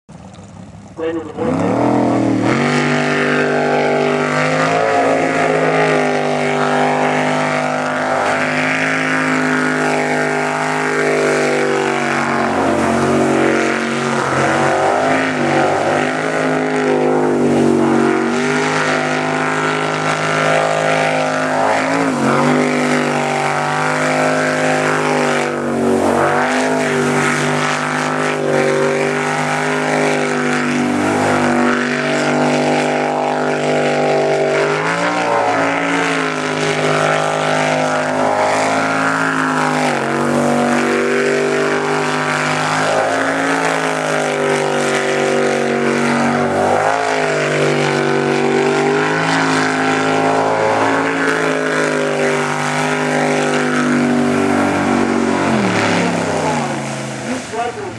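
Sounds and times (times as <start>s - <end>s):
boat engine revving: 0.0s - 57.9s.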